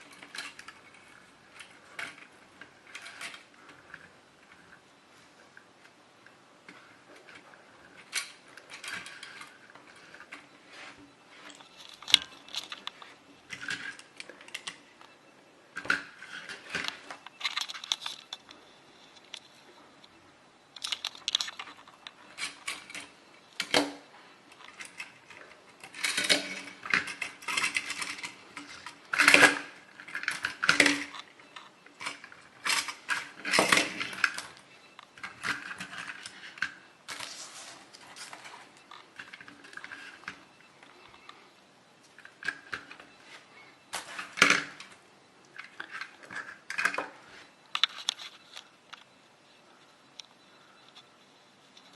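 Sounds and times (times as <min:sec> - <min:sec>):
toy cars clicking and clattering: 0:00.0 - 0:04.9, 0:05.6 - 0:19.6, 0:20.7 - 0:41.4, 0:42.0 - 0:49.1.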